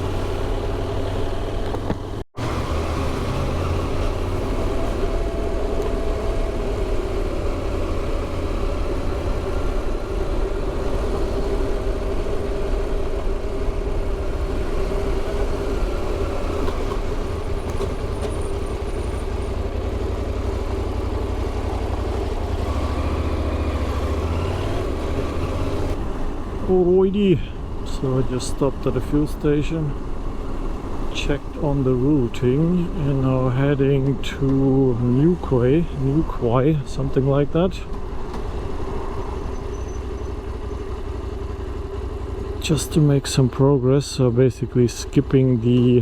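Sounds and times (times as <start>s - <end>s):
motorcycle engine running: 0.0s - 27.0s, 27.6s - 44.2s
road and wind noise: 0.0s - 46.0s.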